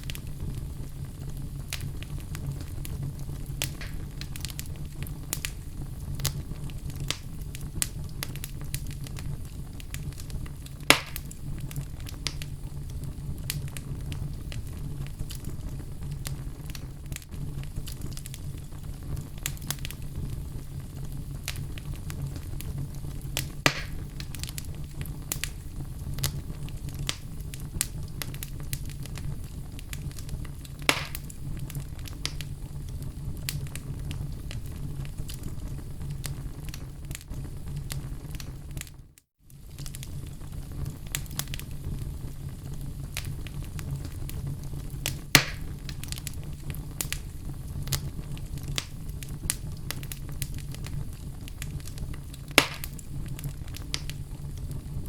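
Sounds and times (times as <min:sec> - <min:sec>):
fire pops: 0:00.0 - 0:55.0
wood fire crackling: 0:00.0 - 0:55.0.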